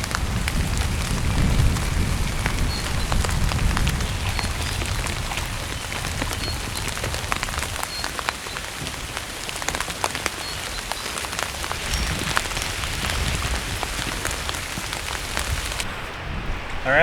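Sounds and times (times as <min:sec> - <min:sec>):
drops ticking on fabric: 0:00.0 - 0:15.9
rain on a tent: 0:00.0 - 0:17.0.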